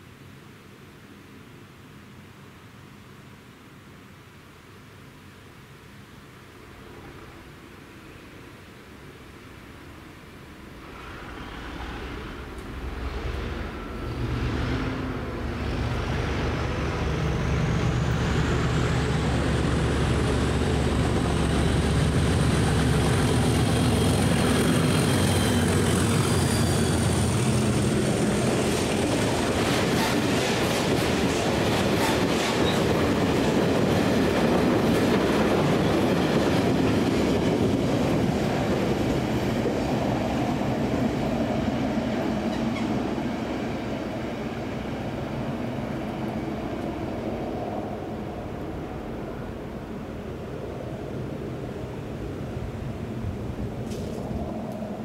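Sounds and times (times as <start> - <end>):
diesel locomotive engine hum: 10.0 - 55.0.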